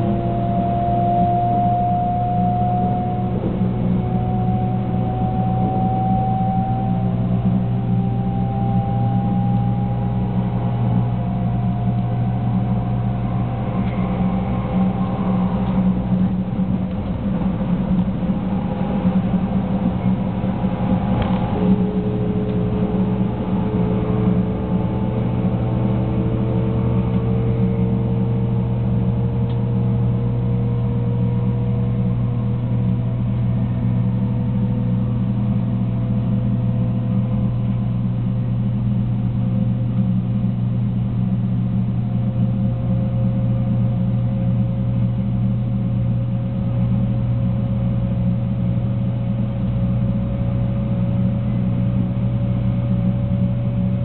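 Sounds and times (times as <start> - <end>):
train cabin rumble and hum: 0.0 - 54.0
train motor whine rising in pitch: 0.0 - 54.0.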